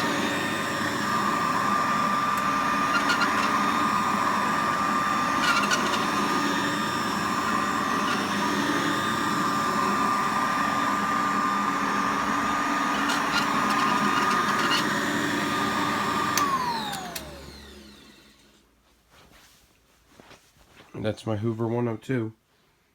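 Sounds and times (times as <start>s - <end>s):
vacuum cleaner running: 0.0s - 18.6s.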